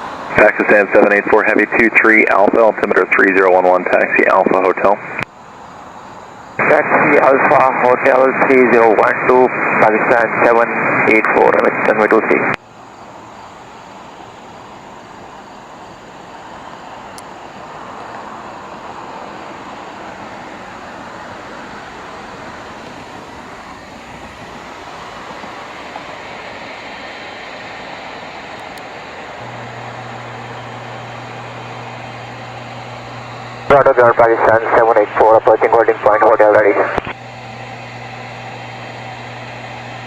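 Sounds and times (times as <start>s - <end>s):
jet engine noise at low power: 0.0s - 40.0s
steady low hum: 0.0s - 40.0s.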